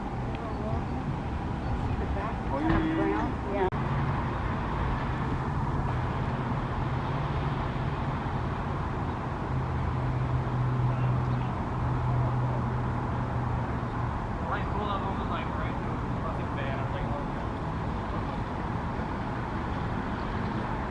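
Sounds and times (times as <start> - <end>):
background noise: 0.0 - 20.9.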